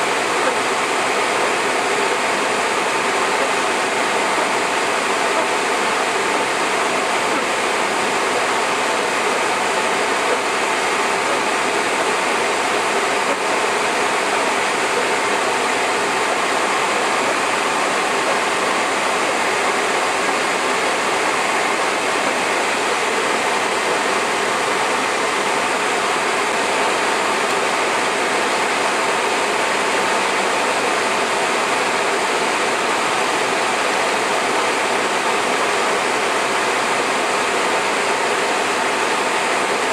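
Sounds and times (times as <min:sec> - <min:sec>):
hard rain falling: 0:00.0 - 0:39.9.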